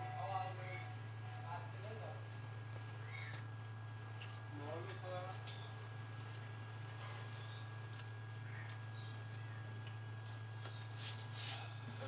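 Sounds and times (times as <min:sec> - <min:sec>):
faint high whine: 0:00.0 - 0:12.0
low electrical hum: 0:00.0 - 0:12.0.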